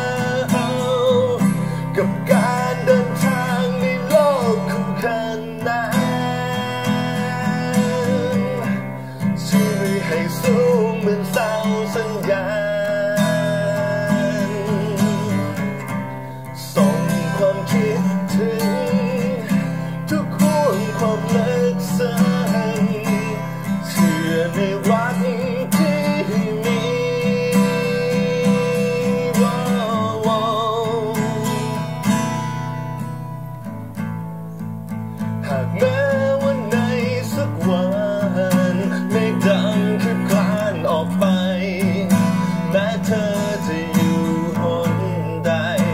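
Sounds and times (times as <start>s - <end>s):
man singing a ballad: 0.0s - 32.8s, 35.2s - 45.9s
acoustic guitar strumming: 0.0s - 45.9s.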